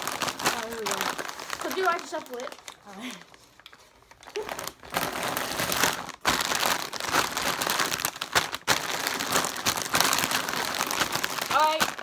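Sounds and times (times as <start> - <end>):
chip bags rustling: 0.0 - 12.0.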